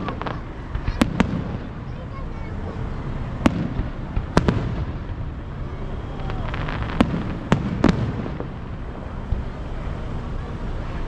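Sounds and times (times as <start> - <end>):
fireworks bangs: 0.0 - 11.0
fireworks crackling: 0.0 - 11.0
low background noise: 0.0 - 11.0.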